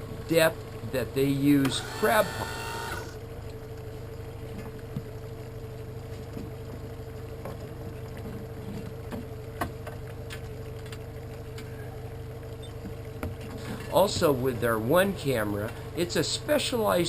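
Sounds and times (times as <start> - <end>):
boat motor humming and whining: 0.0 - 17.0.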